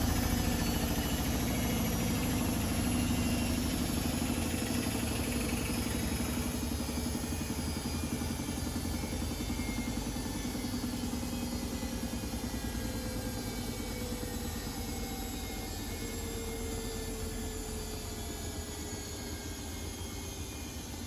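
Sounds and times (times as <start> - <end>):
washing machine motor hum and whine: 0.0 - 21.0.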